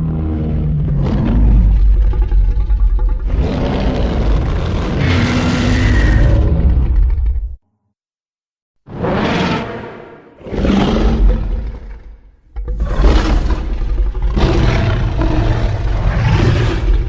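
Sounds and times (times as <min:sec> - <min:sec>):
monster roar: 0:00.0 - 0:07.5, 0:08.9 - 0:17.0.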